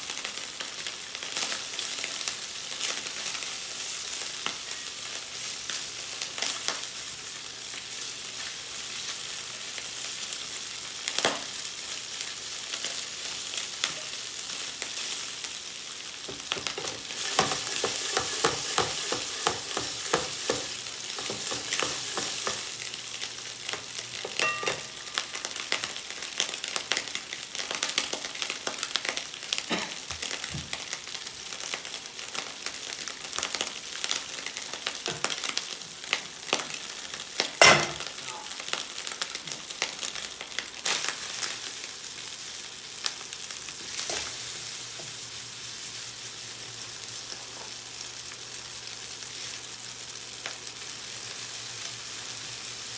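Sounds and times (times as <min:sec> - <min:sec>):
food sizzling in a pan: 0:00.0 - 0:52.9.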